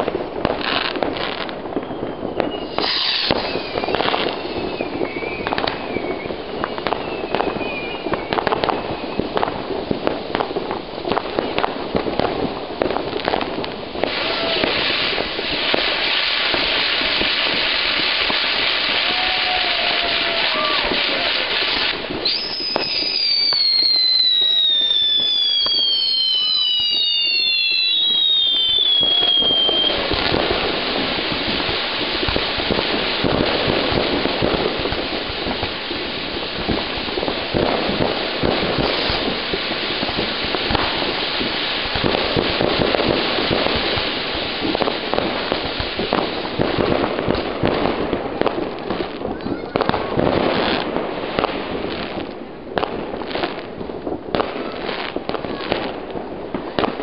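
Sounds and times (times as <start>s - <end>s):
fireworks crackling and popping: 0.0s - 57.0s
fireworks whistling: 0.0s - 57.0s.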